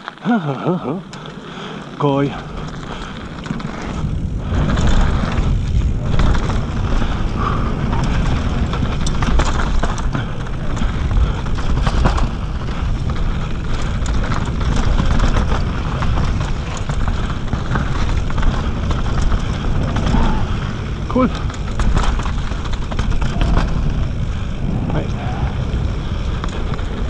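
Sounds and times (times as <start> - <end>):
bike clicks and rattles: 0.0 - 27.0
tyres rolling on dirt: 0.0 - 27.0
wind rush on microphone: 1.1 - 27.0.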